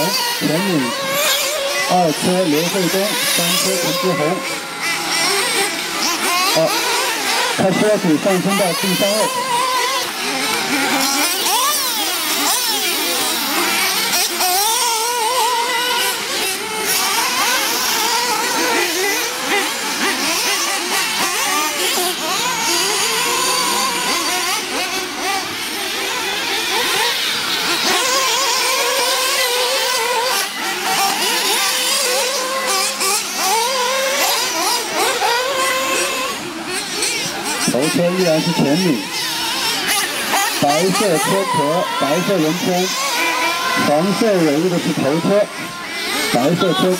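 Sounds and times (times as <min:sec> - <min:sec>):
rc car engines revving: 0:00.0 - 0:46.9.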